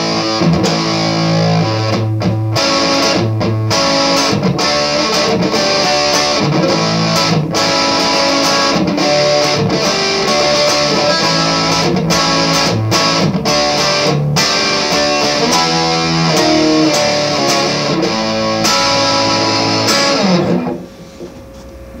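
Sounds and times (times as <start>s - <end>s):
electric guitar through amplifier: 0.0s - 22.0s.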